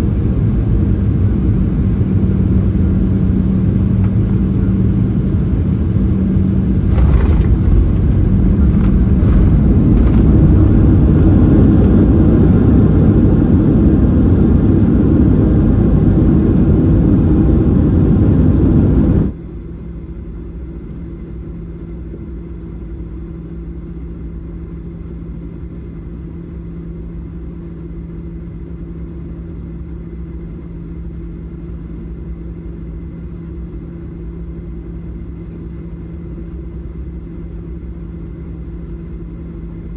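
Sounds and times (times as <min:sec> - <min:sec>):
cabin hum with low drone: 0:00.0 - 0:39.9
jet engine roar in cabin: 0:00.0 - 0:39.9.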